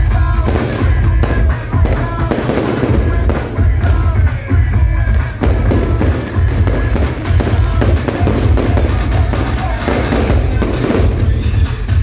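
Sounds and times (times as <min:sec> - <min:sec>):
fireworks bursting: 0:00.0 - 0:12.0
music playing: 0:00.0 - 0:12.0.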